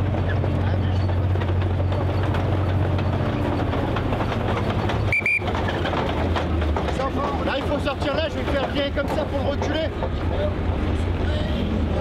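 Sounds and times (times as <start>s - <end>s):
steel tracks clattering: 0.0s - 12.0s
tank engine humming: 0.0s - 12.0s.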